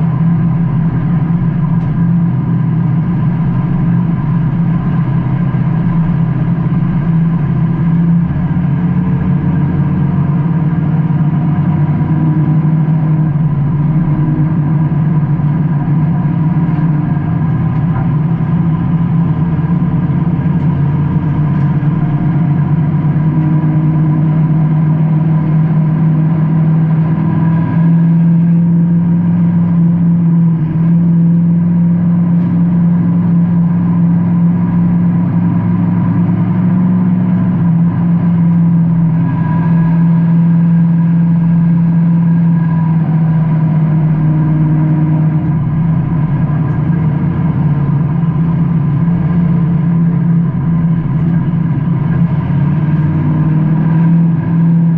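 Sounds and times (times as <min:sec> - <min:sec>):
race car engine running: 0:00.0 - 0:54.9
road and wind noise: 0:00.0 - 0:54.9.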